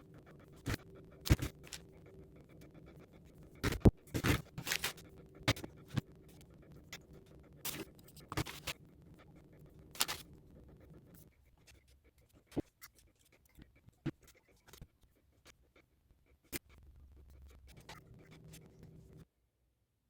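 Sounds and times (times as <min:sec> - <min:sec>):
low steady hum: 0:00.0 - 0:19.3.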